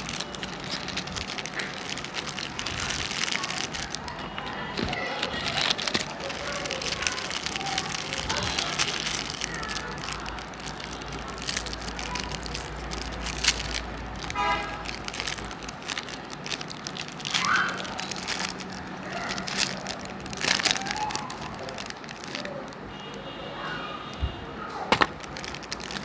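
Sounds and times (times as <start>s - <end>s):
wrapper ripping open: 0.0s - 22.9s, 24.9s - 26.0s
plastic wrapper crinkling: 0.0s - 23.2s, 24.8s - 26.0s.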